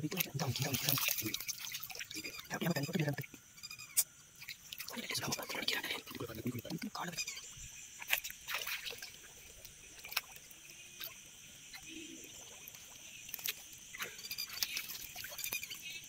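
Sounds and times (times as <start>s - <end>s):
splashes in shallow water: 0.0s - 3.3s, 4.4s - 7.1s, 8.0s - 16.0s
insects chirring: 0.0s - 16.0s.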